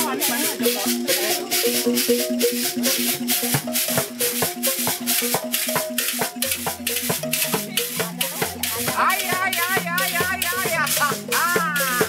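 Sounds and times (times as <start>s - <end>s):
shaker rhythm: 0.0s - 12.0s.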